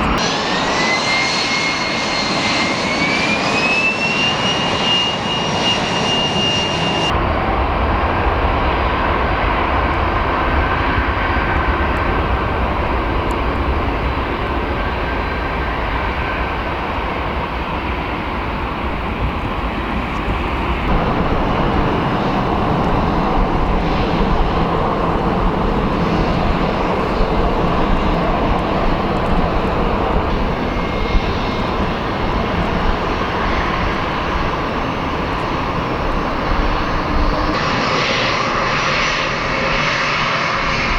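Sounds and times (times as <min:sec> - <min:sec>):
jet airliner taxiing: 0:00.0 - 0:40.9
jet engines taking off: 0:00.0 - 0:40.9.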